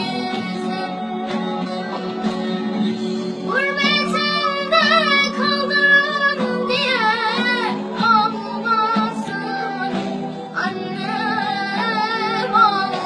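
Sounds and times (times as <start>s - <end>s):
woman singing with vibrato: 0.0s - 2.1s, 3.4s - 13.0s
instrumental accompaniment: 0.0s - 13.0s.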